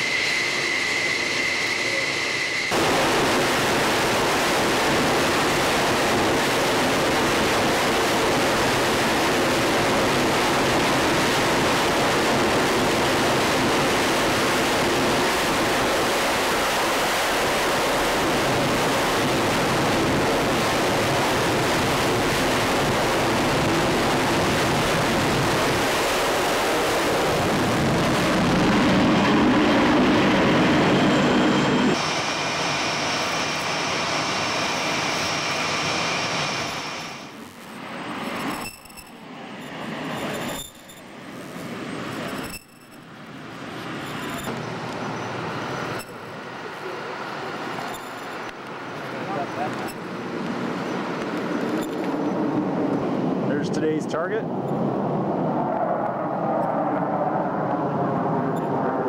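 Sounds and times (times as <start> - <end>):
high engine whine: 0.0 - 59.0
jet engines roaring: 0.0 - 59.0.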